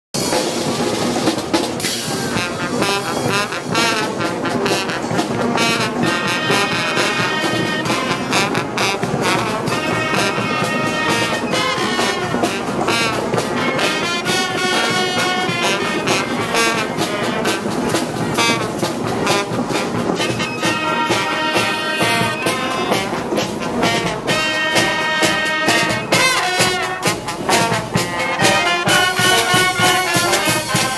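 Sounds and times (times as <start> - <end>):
brass band playing: 0.2 - 30.9.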